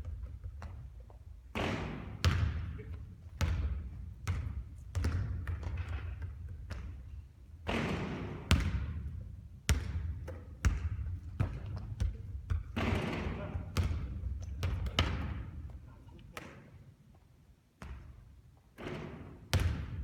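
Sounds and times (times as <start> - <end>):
basketball bouncing on a court: 0.0 - 15.8, 17.8 - 18.2, 18.8 - 20.0.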